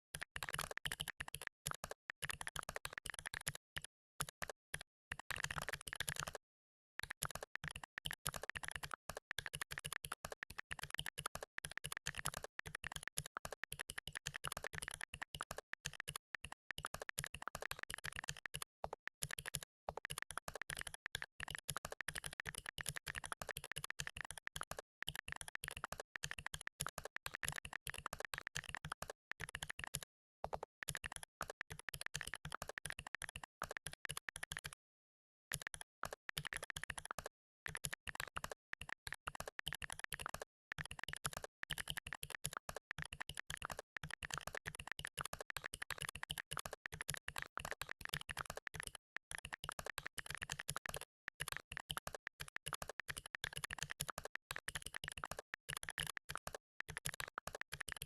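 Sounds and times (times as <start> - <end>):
fast typing on computer keyboard: 0.1 - 6.4, 7.0 - 34.8, 35.5 - 58.0.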